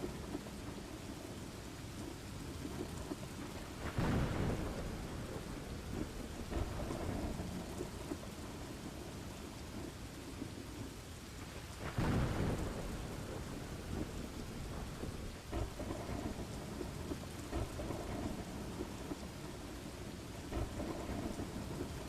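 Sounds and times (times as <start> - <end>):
steady rain falling: 0.0 - 22.0
thunder rumbling: 2.0 - 10.0, 11.5 - 22.0.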